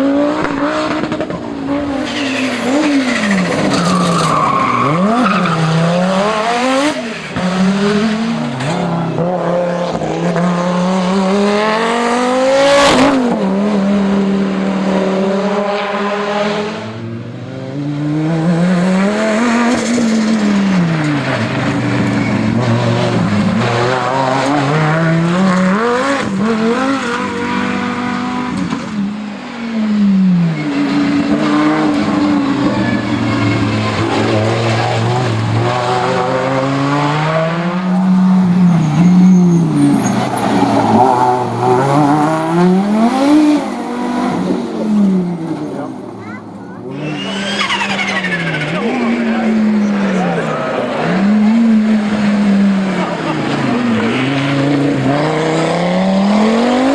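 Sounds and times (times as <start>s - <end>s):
car engine revving hard: 0.0s - 56.9s.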